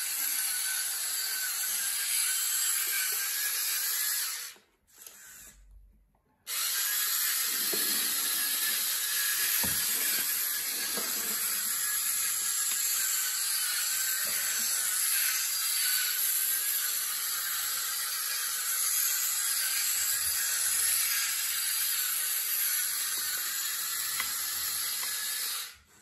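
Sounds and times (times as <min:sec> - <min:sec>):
small gear motor whirring: 0:00.0 - 0:05.8, 0:06.5 - 0:25.9.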